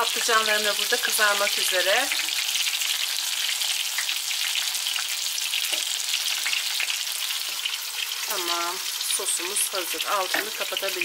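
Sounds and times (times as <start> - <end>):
eggplant frying in hot oil: 0.0 - 11.0.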